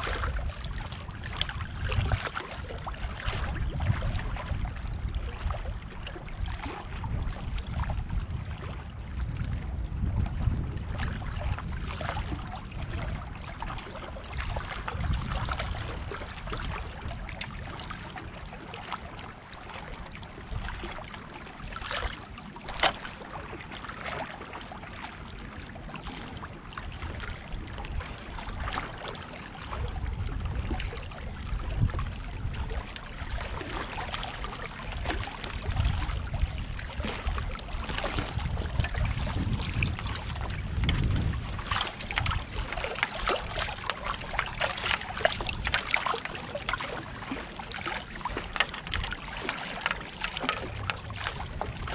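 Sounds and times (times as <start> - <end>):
small waves lapping against rocks: 0.0 - 51.9
wind rumbling on microphone: 0.0 - 51.9.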